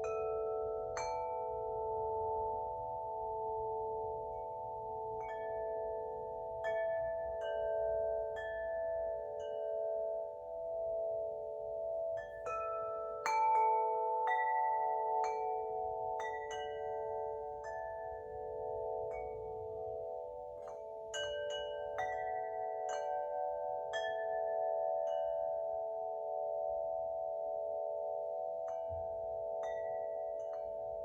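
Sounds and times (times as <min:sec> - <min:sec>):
wind chime ringing: 0:00.0 - 0:31.0.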